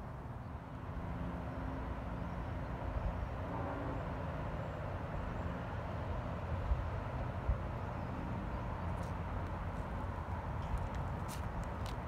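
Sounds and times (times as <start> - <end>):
distant rumble of heavy engines: 0.0 - 12.0.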